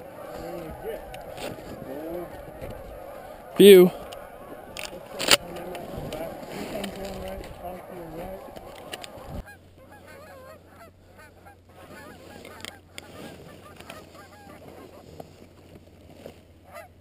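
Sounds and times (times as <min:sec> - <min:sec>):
geese honking: 0:00.0 - 0:15.1, 0:16.6 - 0:17.0.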